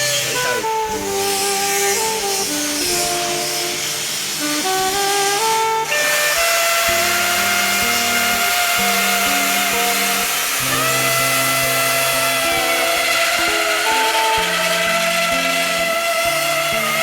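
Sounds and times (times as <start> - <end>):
background music: 0.0 - 17.0
drill motor whining: 0.0 - 17.0.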